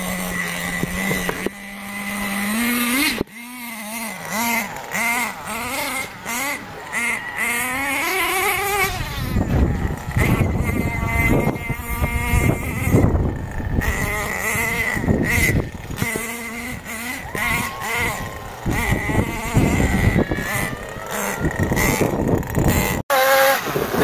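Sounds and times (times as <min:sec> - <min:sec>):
radio-controlled car motor whining: 0:00.0 - 0:24.0.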